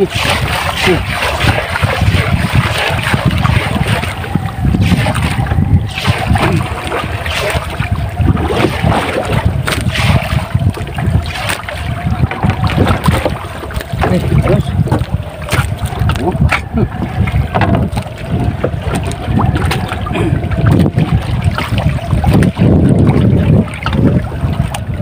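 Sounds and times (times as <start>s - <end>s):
water moving around hull: 0.0s - 25.0s
wind buffeting microphone: 0.0s - 25.0s.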